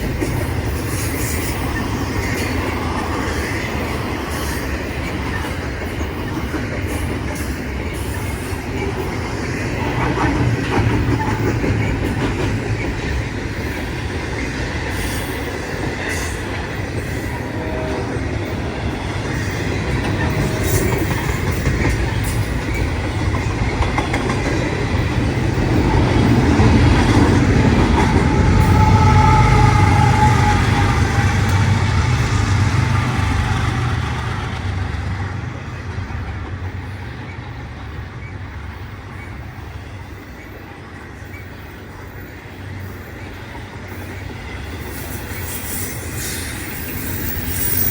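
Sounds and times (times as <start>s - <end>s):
rail clatter: 0.0s - 38.4s
train passing on tracks: 0.0s - 47.9s.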